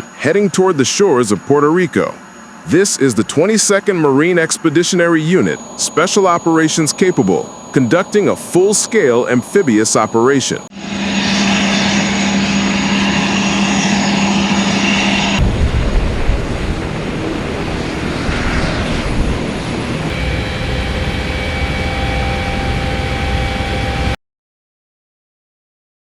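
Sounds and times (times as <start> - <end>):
helicopter turbine whine: 0.0 - 24.2
low rotor rumble: 0.0 - 24.2.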